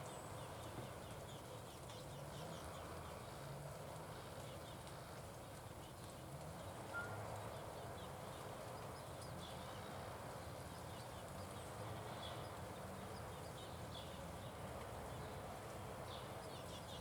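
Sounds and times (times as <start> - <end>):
small birds chirping: 0.0 - 3.5, 4.1 - 17.0
outdoor background hiss: 0.0 - 17.0.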